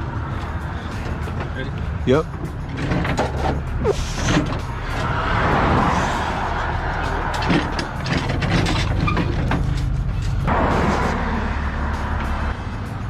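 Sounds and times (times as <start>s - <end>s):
rough mechanical noise: 0.0s - 13.0s.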